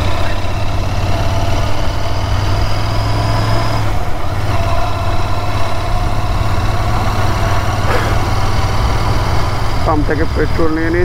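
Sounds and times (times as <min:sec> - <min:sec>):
motorcycle engine droning: 0:00.0 - 0:11.0.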